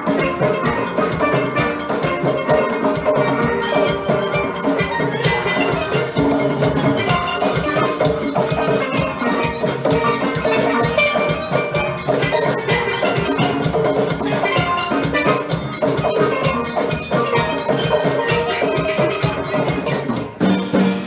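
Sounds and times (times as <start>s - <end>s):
drum kit rhythm: 0.0s - 21.0s
steel pan band playing: 0.0s - 21.0s.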